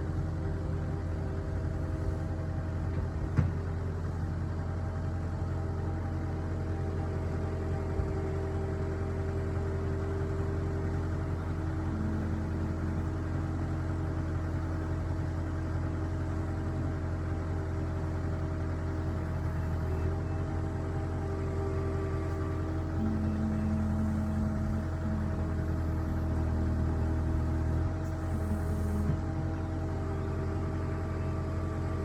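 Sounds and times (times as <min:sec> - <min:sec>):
heavy machine engine droning: 0:00.0 - 0:32.0.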